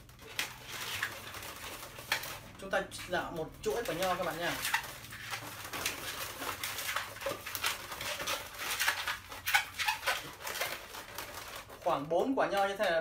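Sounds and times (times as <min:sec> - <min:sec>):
balloon rubber squeaking: 0:00.0 - 0:12.0.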